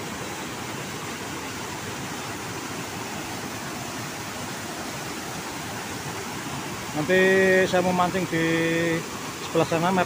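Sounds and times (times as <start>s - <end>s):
fast river water: 0.0s - 10.0s
waterfall rushing: 0.0s - 10.0s.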